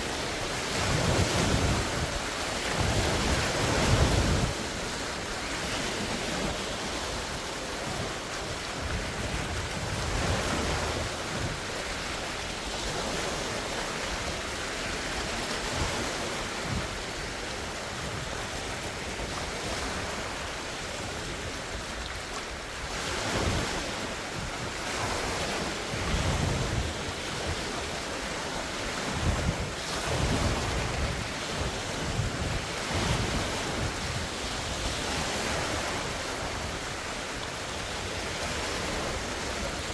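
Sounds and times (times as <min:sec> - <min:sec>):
lake waves washing and splashing: 0:00.0 - 0:39.9
wind buffeting microphone: 0:00.0 - 0:39.9.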